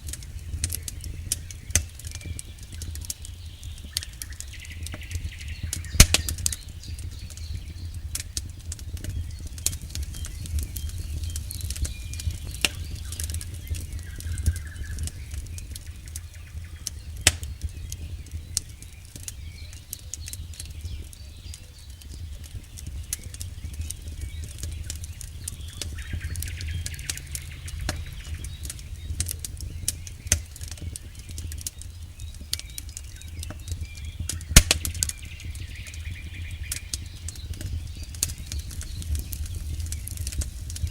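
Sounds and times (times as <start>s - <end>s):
low rumble of flames: 0.0s - 40.9s
wood crackling and popping: 0.0s - 40.9s.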